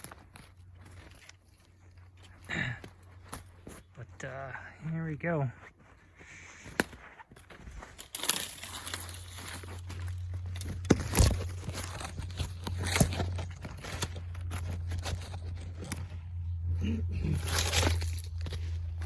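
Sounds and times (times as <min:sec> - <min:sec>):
twigs and dry leaves crunching: 0:00.0 - 0:19.0.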